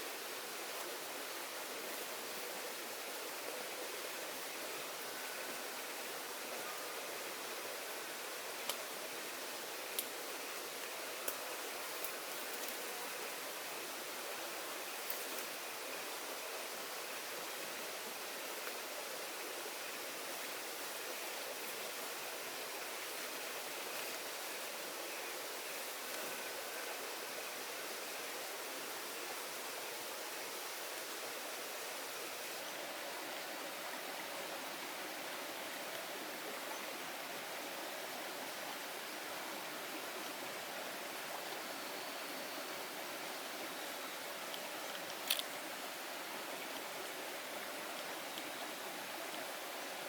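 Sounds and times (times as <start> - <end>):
heavy rain in forest: 0.0 - 50.0.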